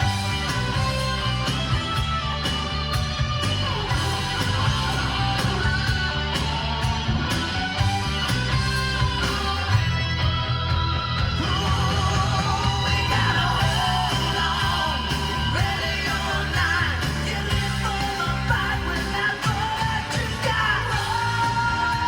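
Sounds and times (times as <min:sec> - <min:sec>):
rock music on car stereo: 0:00.0 - 0:22.0.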